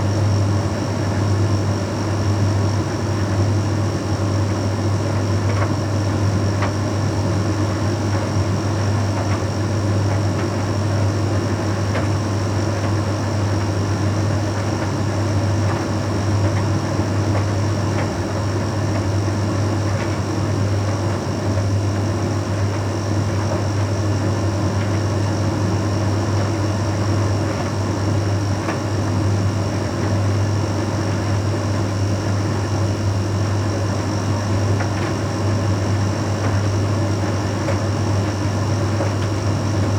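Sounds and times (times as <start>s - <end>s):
tumble dryer running: 0.0s - 11.9s, 14.4s - 39.9s.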